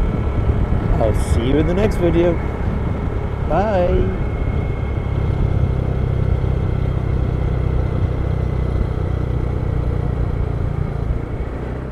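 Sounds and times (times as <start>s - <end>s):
vehicle driving: 0.0s - 11.9s.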